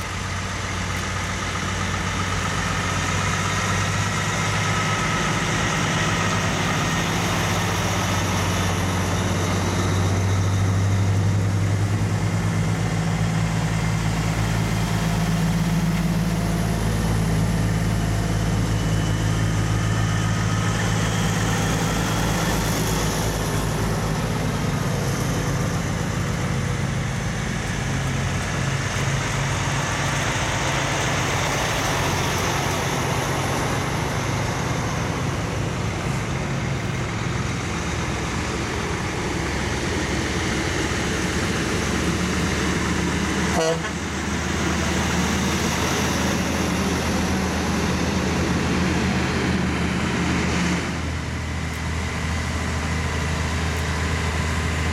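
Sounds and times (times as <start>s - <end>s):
diesel trucks rumbling past: 0.0s - 54.9s
road noise: 0.0s - 54.9s.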